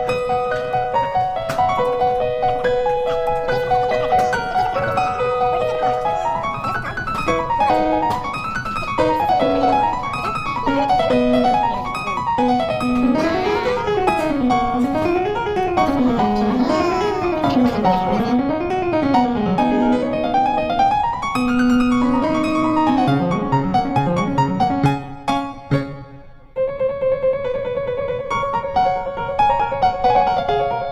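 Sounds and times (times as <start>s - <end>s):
keyboard piece with fast runs: 0.0s - 26.8s.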